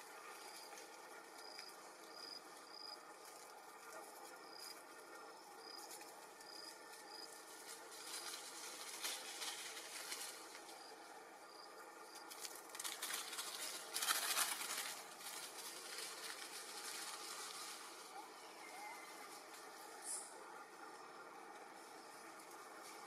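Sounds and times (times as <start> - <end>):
rustling in dry leaves: 0.0 - 23.0.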